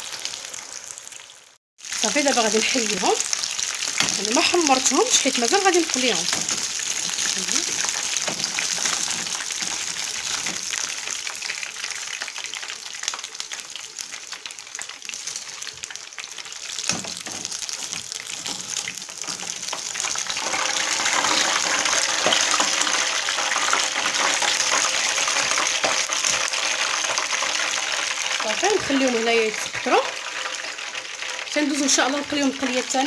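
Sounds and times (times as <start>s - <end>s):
spring rolls deep-frying in oil: 0.0s - 33.0s.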